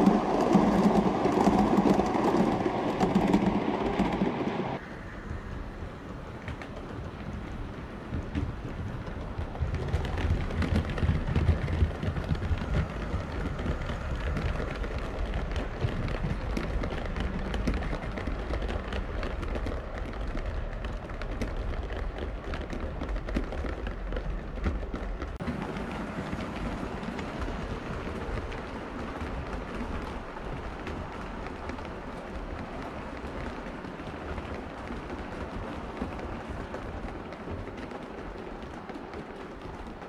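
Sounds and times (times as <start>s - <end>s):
wheels clicking over rail joints: 0.0s - 40.0s.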